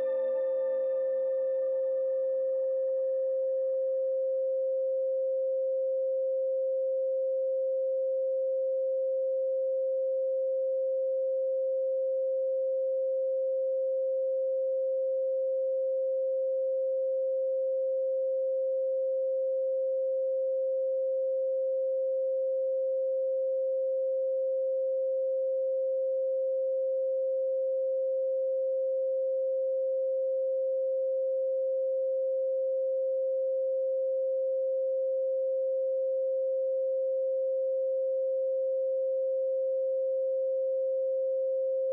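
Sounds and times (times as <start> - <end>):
steady sine tone: 0.0 - 41.9.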